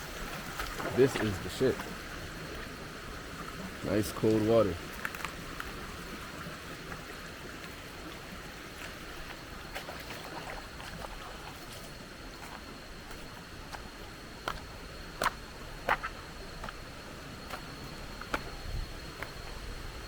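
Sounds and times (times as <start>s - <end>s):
water splashes and clicks: 0.2s - 2.0s, 3.5s - 16.8s, 17.5s - 18.6s, 19.2s - 19.5s.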